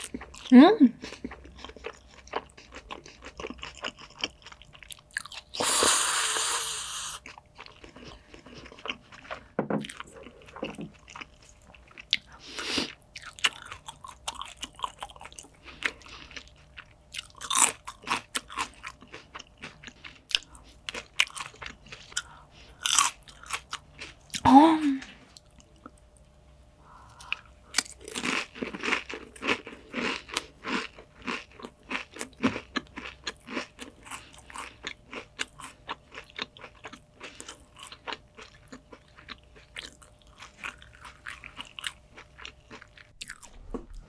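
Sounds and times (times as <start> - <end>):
crunching and chewing vegetables: 0.0 - 44.0.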